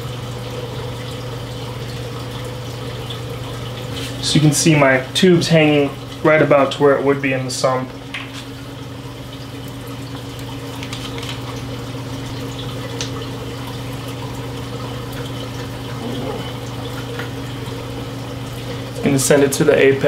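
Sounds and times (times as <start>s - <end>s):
low pump hum: 0.0s - 20.0s
water trickling and splashing: 0.0s - 20.0s.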